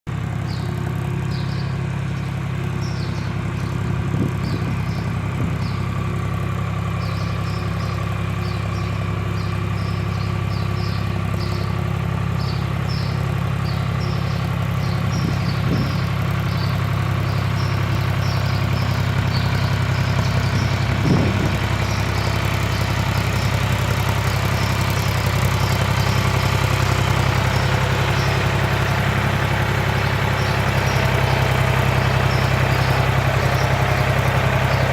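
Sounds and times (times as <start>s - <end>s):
backhoe engine running: 0.1s - 34.9s.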